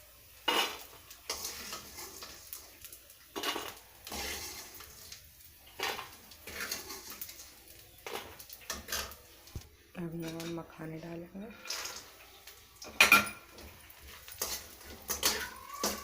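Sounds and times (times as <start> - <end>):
spoon scraping a cooking pan: 0.3 - 10.7, 11.4 - 16.0.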